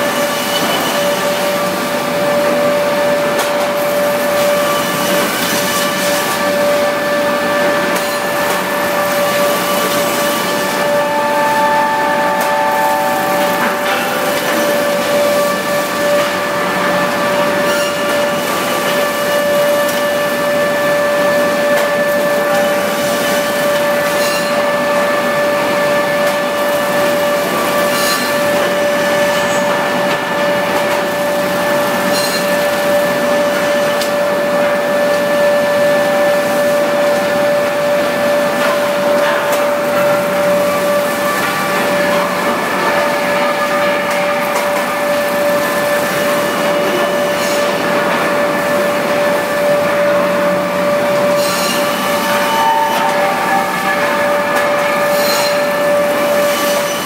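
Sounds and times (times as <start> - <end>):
planing machine whining: 0.0 - 57.0.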